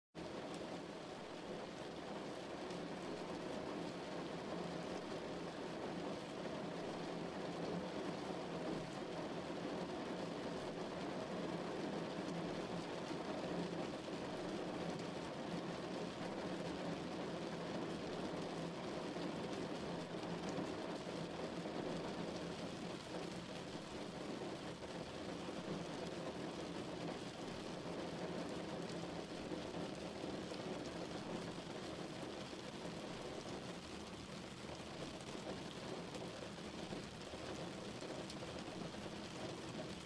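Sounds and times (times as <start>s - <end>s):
rain beating on a car: 0.2s - 40.0s.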